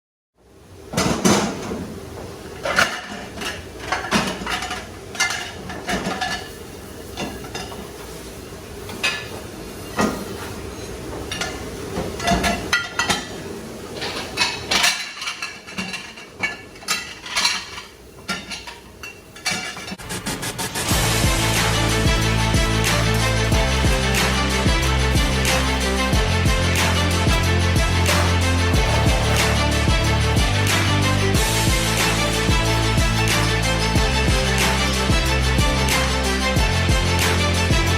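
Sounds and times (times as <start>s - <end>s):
steady background noise: 0.4s - 37.9s
dishes and cutlery clattering: 2.5s - 8.1s, 8.9s - 20.1s, 21.0s - 35.2s.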